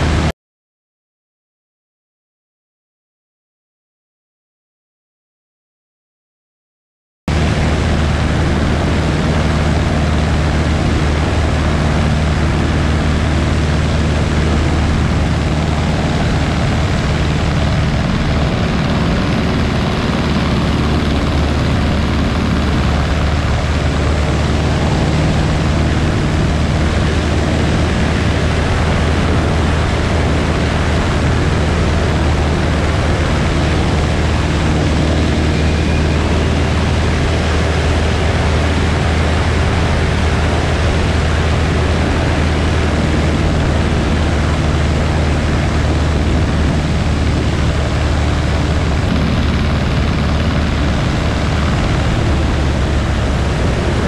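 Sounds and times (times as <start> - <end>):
propeller airplane engine in flight: 0.0 - 0.3, 7.3 - 54.0.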